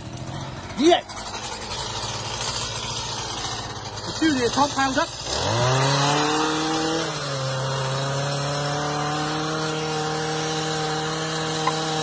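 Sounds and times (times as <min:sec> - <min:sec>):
small engine running high revs: 0:00.0 - 0:12.0.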